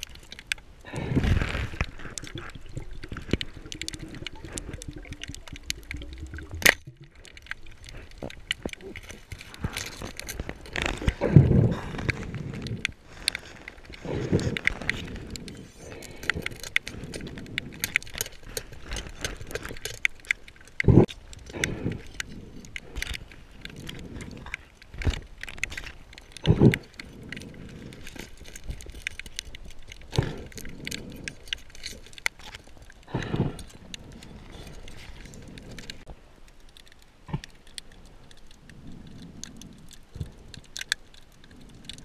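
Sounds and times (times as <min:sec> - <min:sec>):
underwater clicks crackling: 0:00.0 - 0:42.0.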